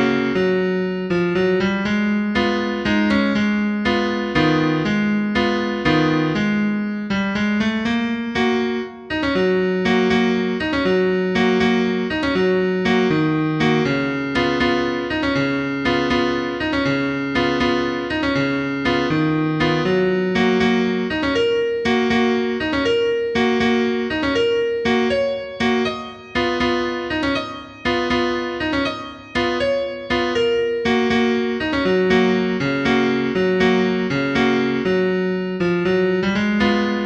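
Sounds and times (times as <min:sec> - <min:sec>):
calm piano music: 0:00.0 - 0:37.0.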